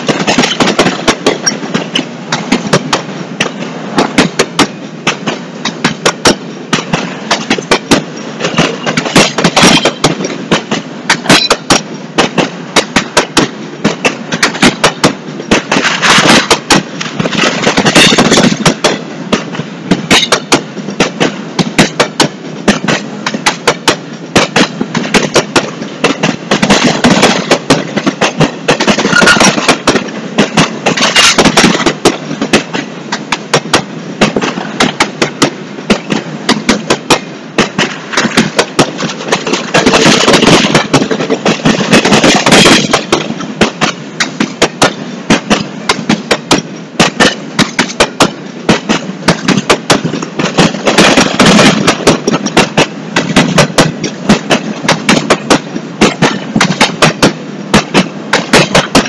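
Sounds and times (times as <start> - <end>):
empty freight cars rattling: 0.0 - 59.0
steel wheels clattering over rail joints: 0.0 - 59.0
train rolling rumble: 0.0 - 59.0.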